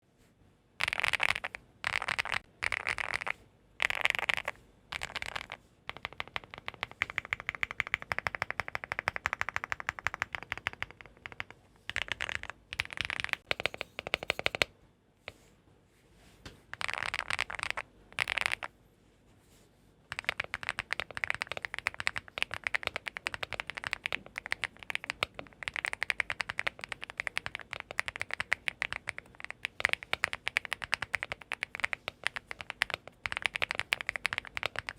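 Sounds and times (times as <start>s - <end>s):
mechanical keyboard typing: 0.8s - 14.7s, 16.8s - 18.7s, 20.1s - 34.9s.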